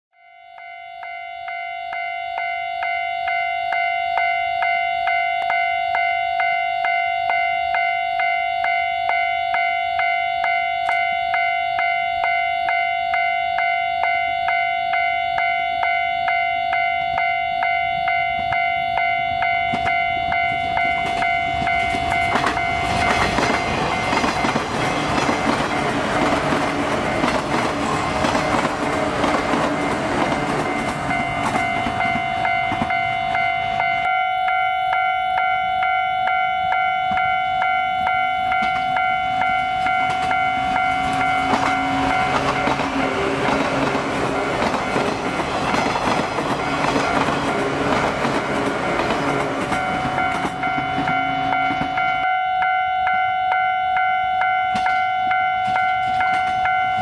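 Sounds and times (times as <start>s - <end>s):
railway crossing bell ringing: 0.1s - 57.0s
electric train passing: 1.0s - 57.0s.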